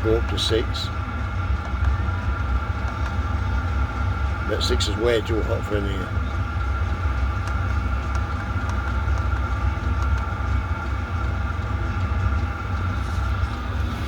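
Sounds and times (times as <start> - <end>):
air heater low rumble: 0.0 - 14.0
fan whine: 0.0 - 14.0.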